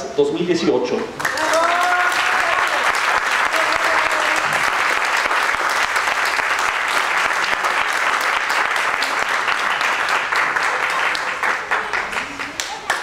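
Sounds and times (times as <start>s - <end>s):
audience applauding: 1.2s - 13.0s.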